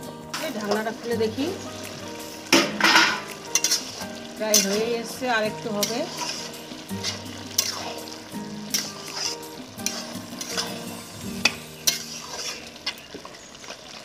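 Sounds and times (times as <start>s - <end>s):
food sizzling: 0.0s - 14.0s
metal spatula scraping a pan: 0.4s - 14.0s.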